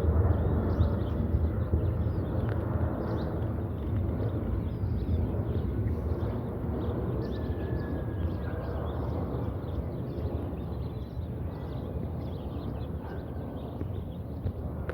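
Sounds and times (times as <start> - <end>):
jet engines rumbling overhead: 0.0 - 14.9
small birds chirping: 0.3 - 14.6.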